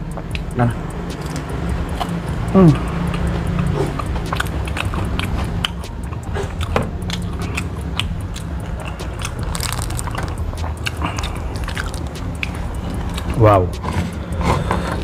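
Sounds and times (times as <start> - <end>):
man chewing and lip-smacking: 0.0 - 15.0
steady low hum: 0.0 - 15.0.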